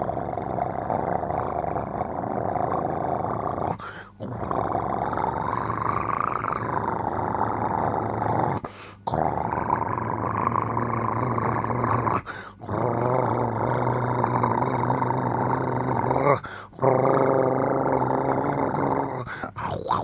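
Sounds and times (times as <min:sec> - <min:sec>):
heavy snoring: 0:00.0 - 0:20.0.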